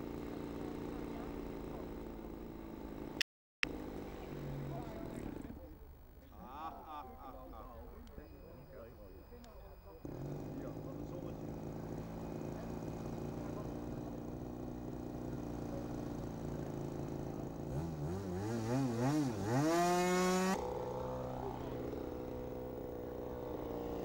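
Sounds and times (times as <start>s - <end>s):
model airplane engine revving: 0.0s - 5.6s, 10.1s - 24.0s.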